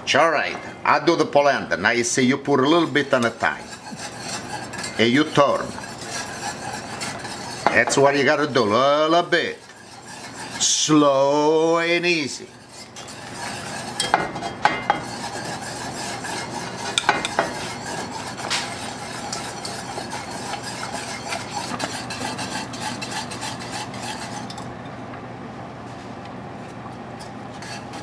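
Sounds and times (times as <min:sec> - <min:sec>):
whisk scraping in a pot: 0:02.1 - 0:24.8, 0:27.2 - 0:28.0.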